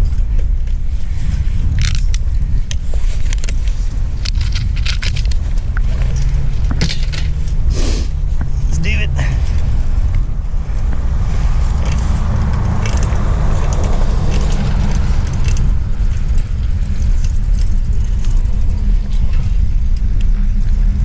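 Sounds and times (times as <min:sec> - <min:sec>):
bicycle road noise: 0:00.0 - 0:21.0
wind buffeting microphone: 0:00.0 - 0:21.0.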